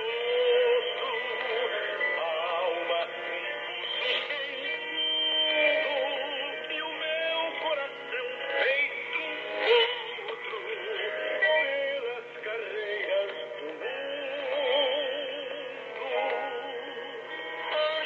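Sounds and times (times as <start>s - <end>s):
music with singing on shortwave radio: 0.0s - 18.0s.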